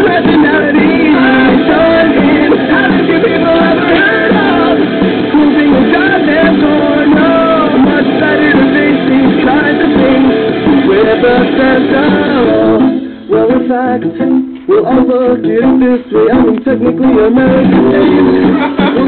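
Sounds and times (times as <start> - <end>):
guitar strumming: 0.0 - 19.0
man singing loudly: 0.0 - 19.0.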